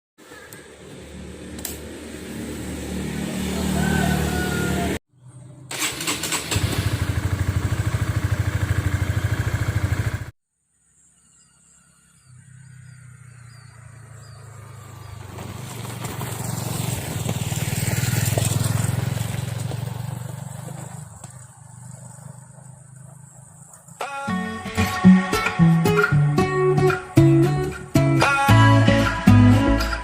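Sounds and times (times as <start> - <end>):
vehicle engine humming: 0.2 - 10.3, 11.0 - 28.5.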